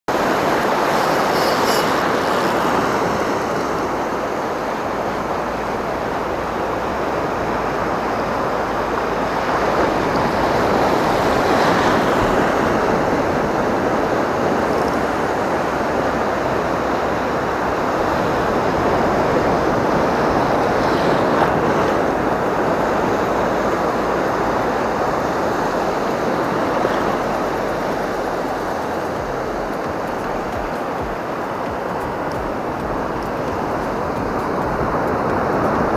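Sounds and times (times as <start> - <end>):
wind: 0.0 - 35.9
waves rushing: 0.1 - 35.9.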